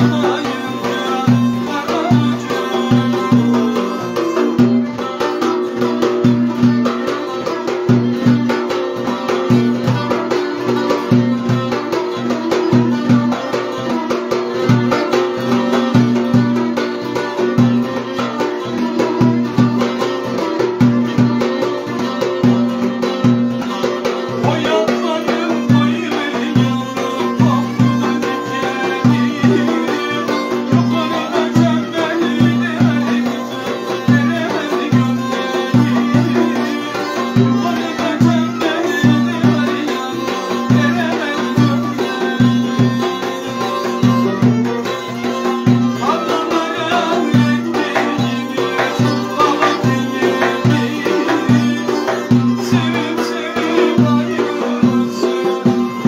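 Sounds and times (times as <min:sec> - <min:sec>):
drum beating: 0:00.0 - 0:56.0
folk dance music: 0:00.0 - 0:56.0
strummed strings: 0:00.0 - 0:56.0
violin melody: 0:00.0 - 0:56.0.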